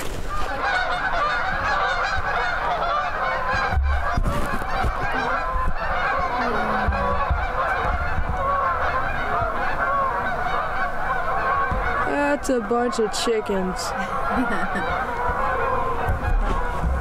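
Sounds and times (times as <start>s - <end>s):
geese honking: 0.2s - 17.0s.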